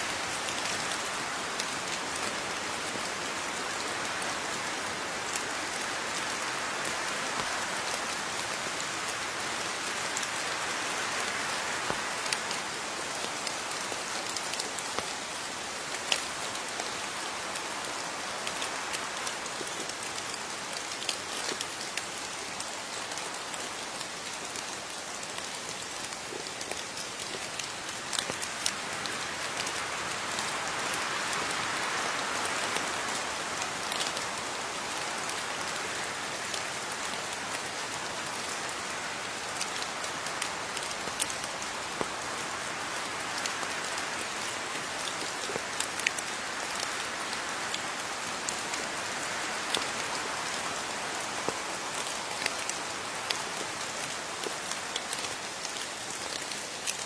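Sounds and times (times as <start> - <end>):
raindrops ticking on a surface: 0.0 - 57.0
steady rain hiss: 0.0 - 57.0.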